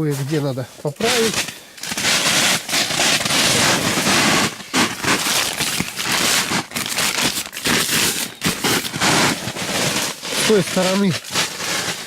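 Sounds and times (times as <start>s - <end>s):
fabric rustling and crinkling: 0.0s - 12.0s.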